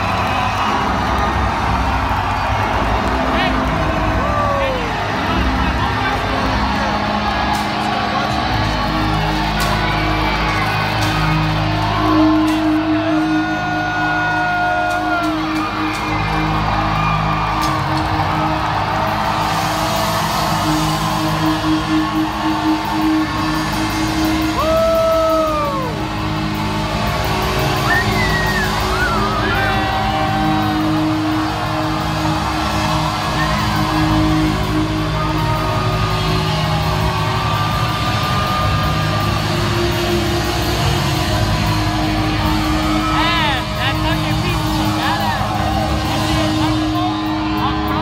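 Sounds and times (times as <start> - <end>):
loud rock band playing: 0.0 - 48.0.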